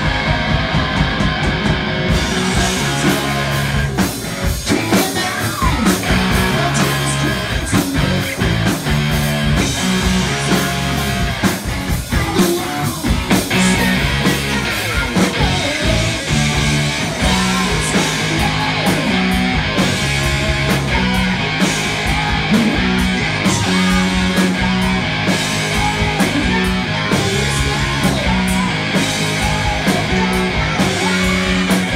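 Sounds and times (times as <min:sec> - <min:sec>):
distorted electric guitars: 0:00.0 - 0:31.9
drums: 0:00.0 - 0:31.9
electric bass: 0:00.0 - 0:31.9
man singing: 0:02.3 - 0:08.8, 0:12.1 - 0:16.5, 0:17.2 - 0:31.9.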